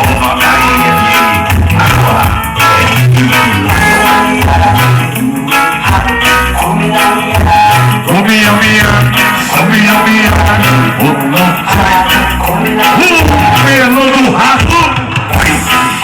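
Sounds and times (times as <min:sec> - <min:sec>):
loud music with plucked guitar: 0:00.0 - 0:16.0.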